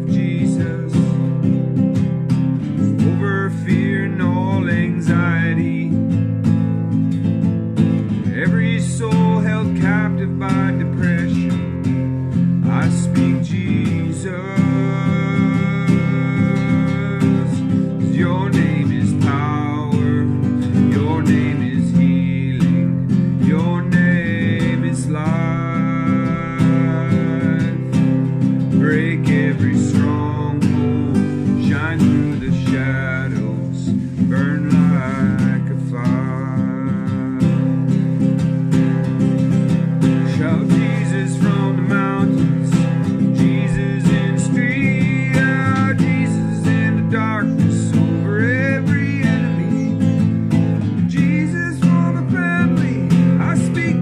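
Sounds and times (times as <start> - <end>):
man singing: 0.0 - 54.0
strummed acoustic guitar: 0.0 - 54.0.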